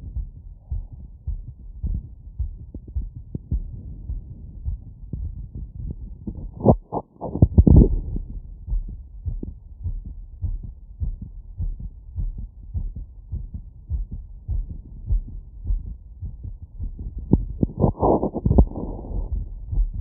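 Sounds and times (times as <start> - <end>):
fast heartbeat thumps: 0.0 - 20.0.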